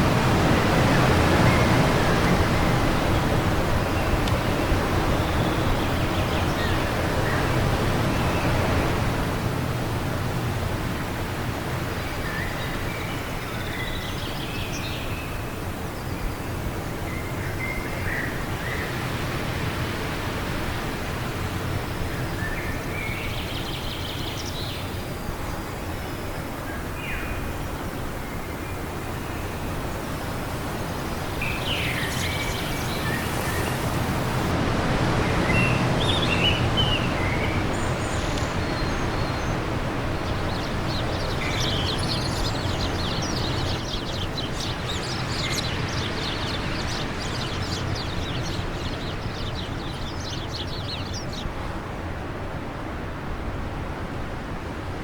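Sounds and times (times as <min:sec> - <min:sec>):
wind blowing: 0:00.0 - 0:13.5, 0:18.4 - 0:51.6
songbirds chirping: 0:00.0 - 0:51.7.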